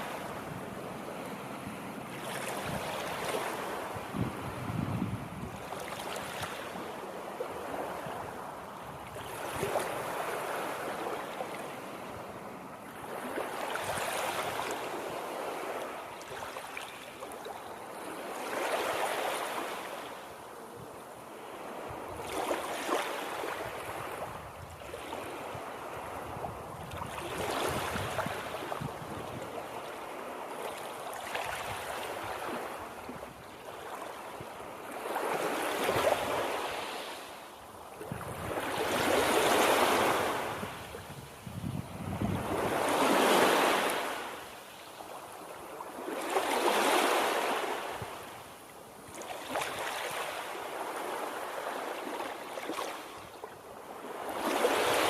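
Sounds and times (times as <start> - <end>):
waves washing in: 0.0 - 55.0.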